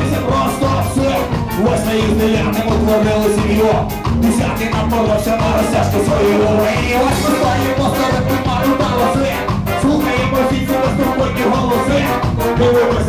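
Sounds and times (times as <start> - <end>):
ska-punk band playing live: 0.0 - 13.0.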